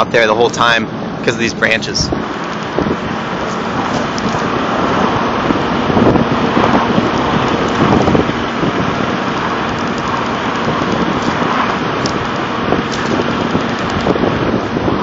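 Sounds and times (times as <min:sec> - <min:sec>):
truck engine driving: 0:00.0 - 0:15.0
wind on microphone: 0:00.5 - 0:15.0
tyres on snow: 0:02.3 - 0:15.0.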